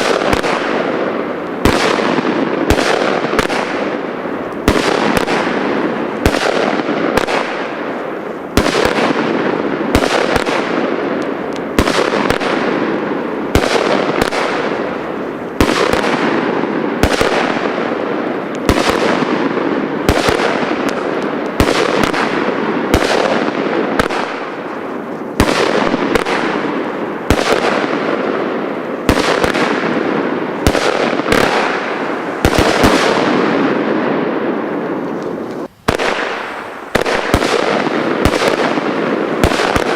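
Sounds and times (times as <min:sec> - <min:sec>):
crackling hiss: 0:00.0 - 0:39.9
firework bangs: 0:00.0 - 0:39.9.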